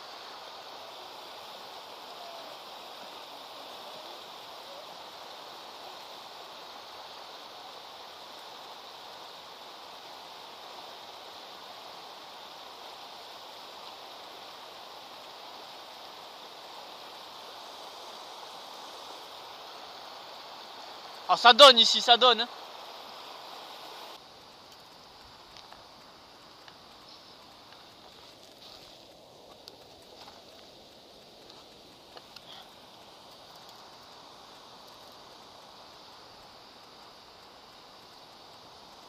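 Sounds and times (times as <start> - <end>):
river rushing over rapids: 0.0 - 39.0.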